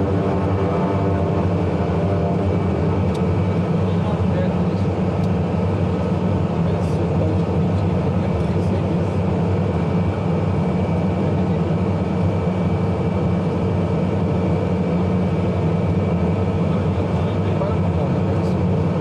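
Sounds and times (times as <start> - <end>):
high turbine whine: 0.0 - 19.0
turboprop engines droning: 0.0 - 19.0.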